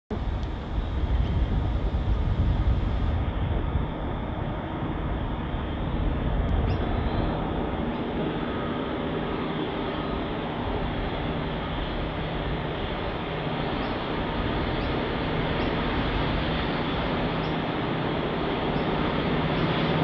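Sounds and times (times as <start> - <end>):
distant locomotive engine rumble: 0.1 - 20.0.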